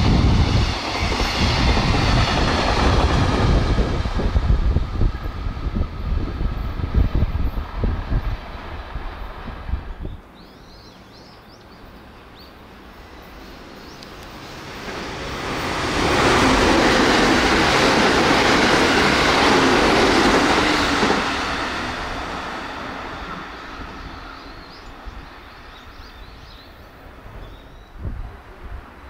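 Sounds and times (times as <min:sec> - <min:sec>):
electric train passing: 0:00.0 - 0:29.0
wheels rushing on rail: 0:00.0 - 0:29.0.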